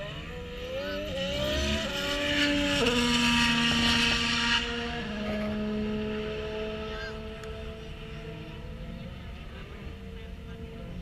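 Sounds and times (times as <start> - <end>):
racing engine shifting gears: 0.0 - 11.0.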